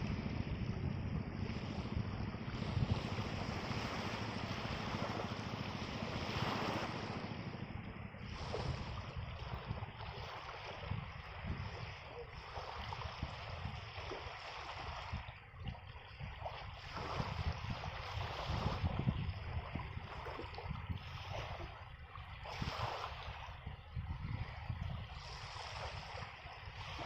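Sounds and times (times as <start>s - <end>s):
waves washing: 0.0s - 23.6s, 24.4s - 27.0s
wind rumbling on microphone: 0.0s - 27.0s.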